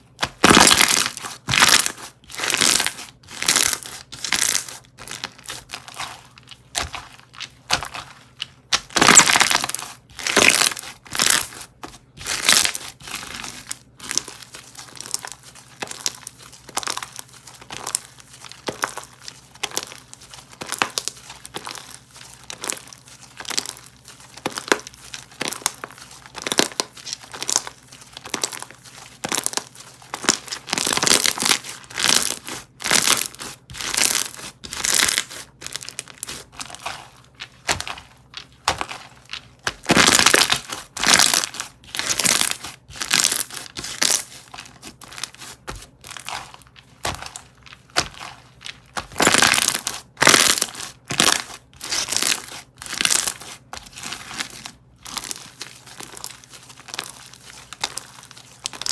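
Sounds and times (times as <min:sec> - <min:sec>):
slime crackling and popping: 0:00.2 - 0:58.9.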